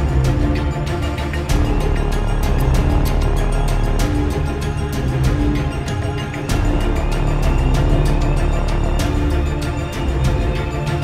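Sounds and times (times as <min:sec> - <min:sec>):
background music with steady beat: 0:00.0 - 0:11.0
low bass notes: 0:00.0 - 0:11.0.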